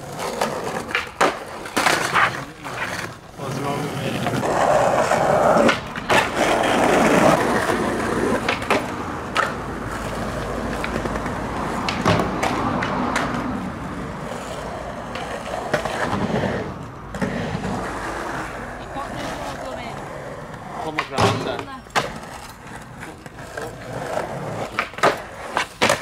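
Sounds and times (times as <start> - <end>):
skateboard clacking on ground: 0.0 - 26.0
skateboard wheels rolling on pavement: 0.0 - 26.0.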